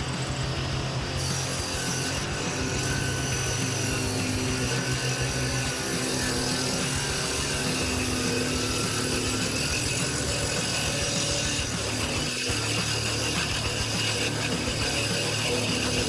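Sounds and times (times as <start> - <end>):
constant mechanical noise: 0.0 - 16.0.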